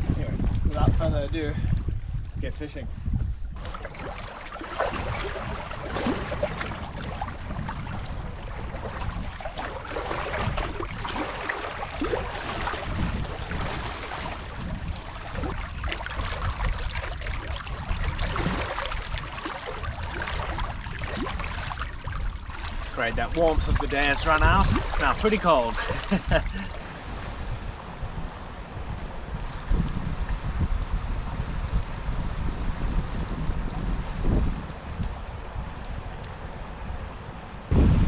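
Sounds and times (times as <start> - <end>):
wind rumble on microphone: 0.0 - 38.0
water lapping and splashing: 3.0 - 37.7.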